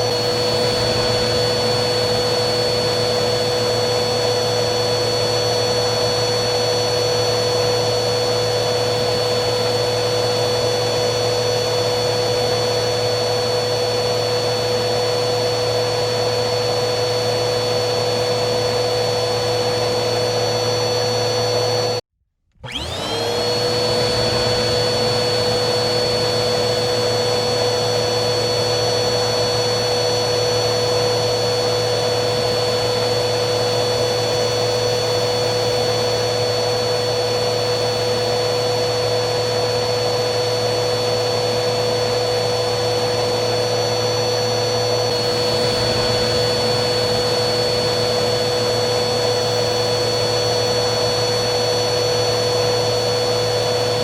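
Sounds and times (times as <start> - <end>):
vacuum cleaner whining: 0.0 - 54.0.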